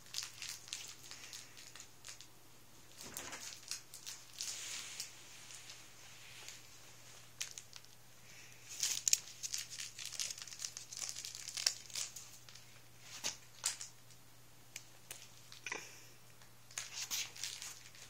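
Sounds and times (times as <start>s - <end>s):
crinkling and rustling of play mat: 0.0s - 14.2s, 14.8s - 15.7s, 16.7s - 18.0s.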